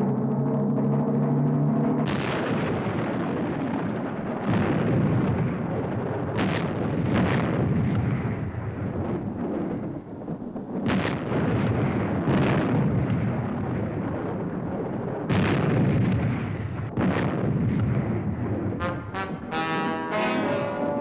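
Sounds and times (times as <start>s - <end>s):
continuous low rumble: 0.0s - 21.0s
heavy explosion blasts: 0.0s - 21.0s
sharp cracks: 2.0s - 21.0s.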